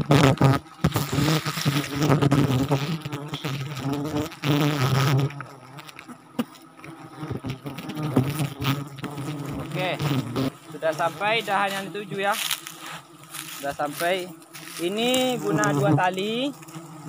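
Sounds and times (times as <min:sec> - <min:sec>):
flying insects buzzing: 0:00.0 - 0:17.0.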